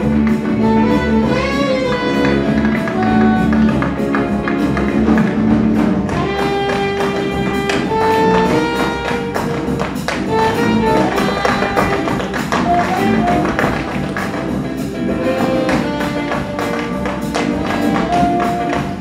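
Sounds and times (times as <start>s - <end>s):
live jazz ensemble music: 0.0s - 19.0s
tap shoes on wooden floor: 0.0s - 19.0s.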